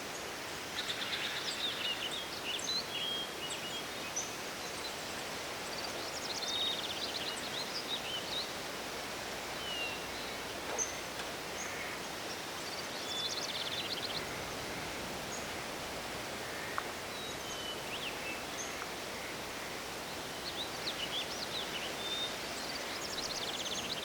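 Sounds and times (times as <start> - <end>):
songbirds calling: 0.0 - 24.0
steady background hiss: 0.0 - 24.0.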